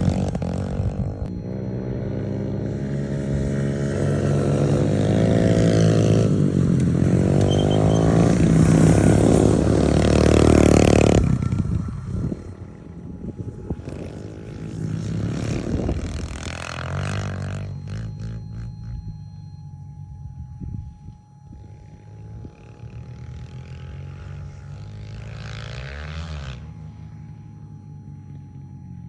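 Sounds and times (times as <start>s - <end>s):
small vehicle engine revving: 0.0s - 19.0s, 21.6s - 27.2s.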